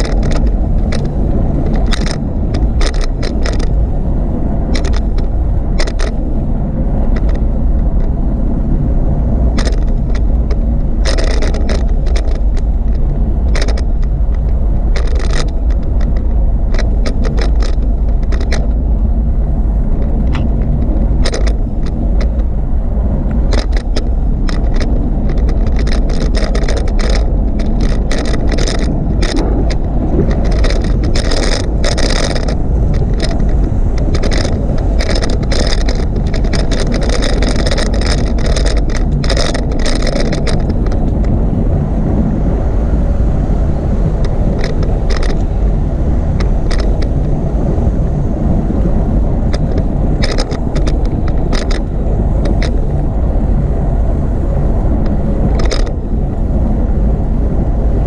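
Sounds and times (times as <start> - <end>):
bicycle rattles and clicks: 0.0 - 58.0
wind and road rumble: 0.0 - 58.0.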